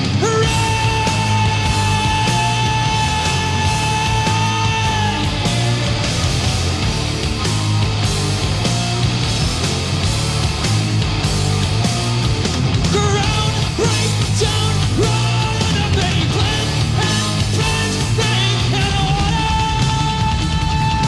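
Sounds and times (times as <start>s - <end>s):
heavy rock band playing: 0.0s - 21.0s.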